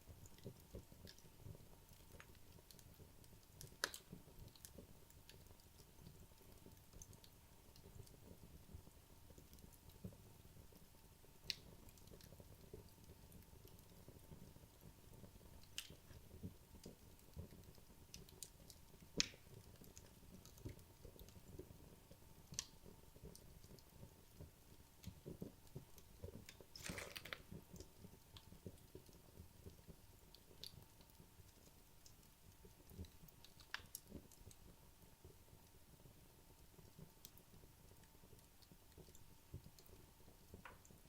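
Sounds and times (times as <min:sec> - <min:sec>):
fire crackling and popping: 0:00.0 - 0:41.0.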